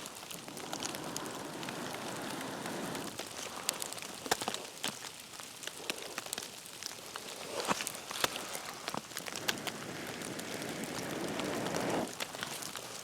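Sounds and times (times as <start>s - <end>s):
rain and sleet pattering: 0.0s - 13.0s.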